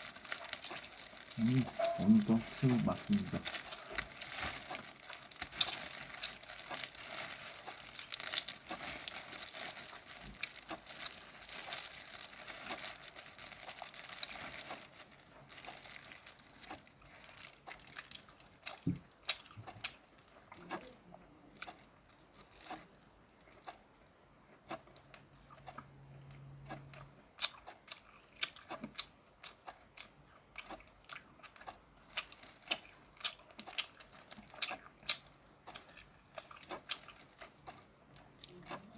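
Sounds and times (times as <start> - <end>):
crackling of shrimp shells: 0.0 - 23.8, 27.4 - 38.9
chewing with crunches: 0.0 - 38.9.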